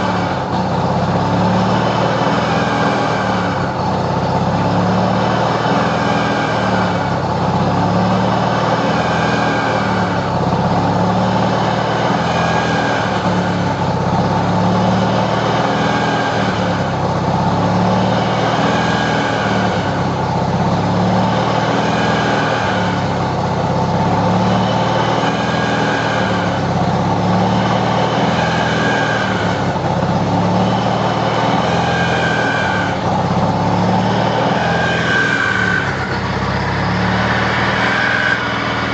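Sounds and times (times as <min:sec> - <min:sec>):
rotary engine running: 0:00.0 - 0:38.9
turbo whine: 0:00.0 - 0:38.9.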